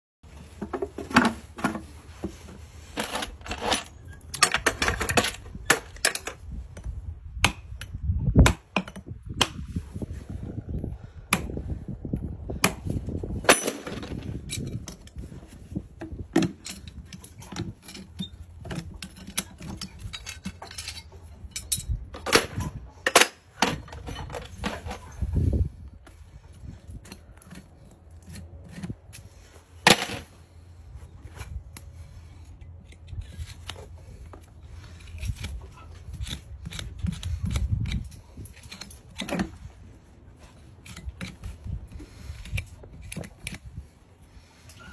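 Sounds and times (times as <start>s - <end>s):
metallic clicks and scrapes: 0.4s - 8.0s, 12.6s - 30.6s, 31.2s - 44.9s.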